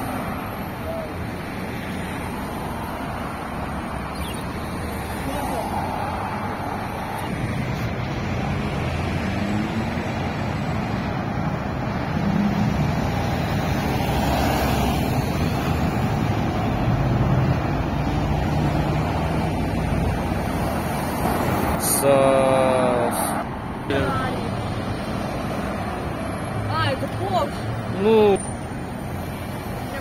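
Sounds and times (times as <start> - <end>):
car engines running: 0.0 - 30.0
tyres passing: 0.0 - 30.0.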